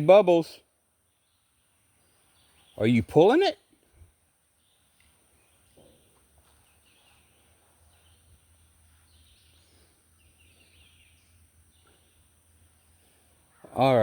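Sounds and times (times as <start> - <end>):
distant birds chirping: 0.0 - 14.0.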